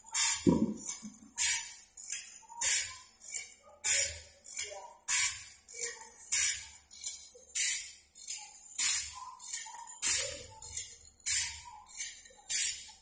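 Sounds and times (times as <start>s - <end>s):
sharpening machine grinding saw teeth: 0.1s - 13.0s.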